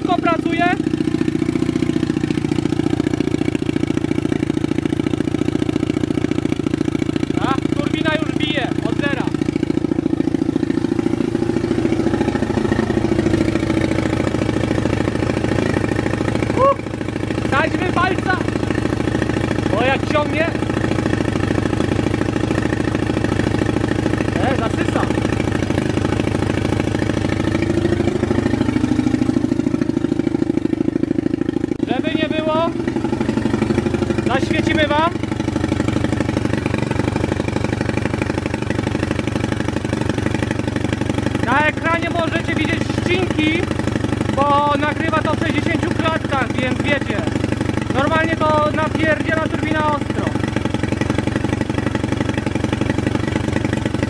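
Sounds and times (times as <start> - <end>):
motorbike engine idling: 0.0 - 54.0.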